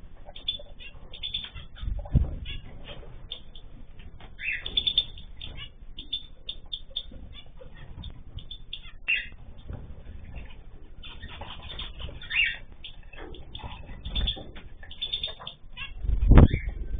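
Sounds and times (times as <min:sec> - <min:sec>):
cage birds chirping and calling: 0:00.0 - 0:16.9.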